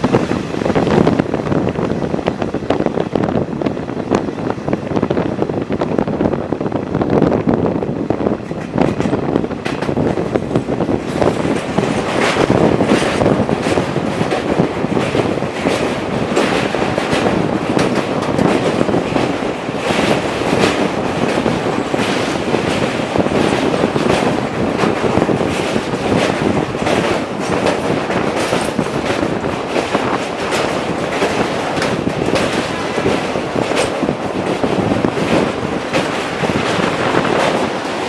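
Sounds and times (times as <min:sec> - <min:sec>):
rail joint clacks: 0:00.0 - 0:38.0
train wheels rumbling on a bridge: 0:00.0 - 0:38.0.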